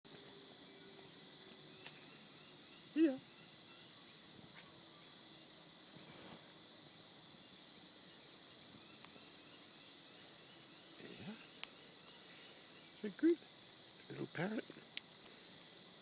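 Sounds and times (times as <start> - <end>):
insects chirring: 0.1 - 16.0.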